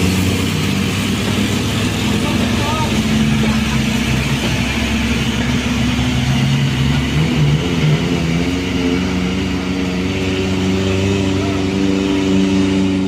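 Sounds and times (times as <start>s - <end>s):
truck diesel engine revving: 0.0s - 13.0s.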